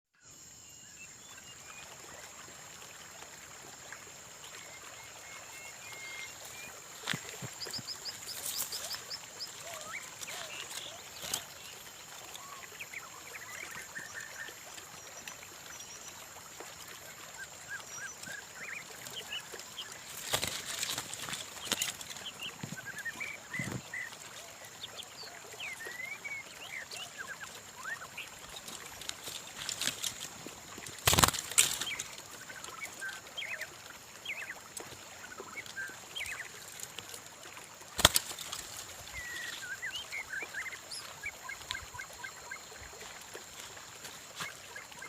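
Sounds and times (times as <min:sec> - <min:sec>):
small birds chirping and trilling: 0:04.3 - 0:45.0.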